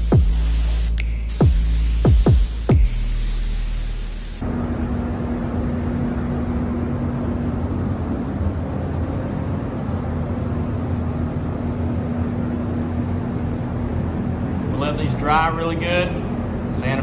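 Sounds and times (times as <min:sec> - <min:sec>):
constant hum: 0:00.0 - 0:17.0
ventilation fans rushing air: 0:00.0 - 0:17.0.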